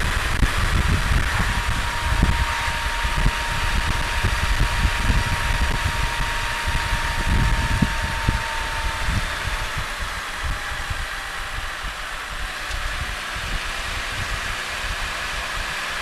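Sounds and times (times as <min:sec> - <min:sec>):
thin steady whine: 0:00.0 - 0:16.0
vehicle road noise: 0:00.0 - 0:16.0
wind buffeting microphone: 0:00.0 - 0:16.0.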